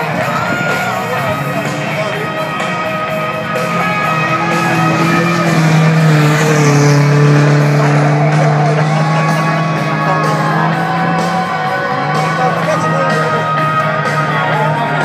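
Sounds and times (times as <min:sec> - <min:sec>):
rock music over loudspeaker: 0:00.0 - 0:15.0.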